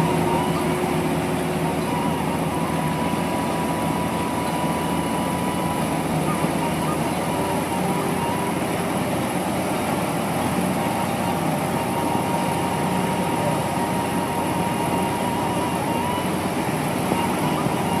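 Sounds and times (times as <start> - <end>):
faint steady whine: 0.0 - 18.0
heavy diesel engine running: 0.0 - 18.0.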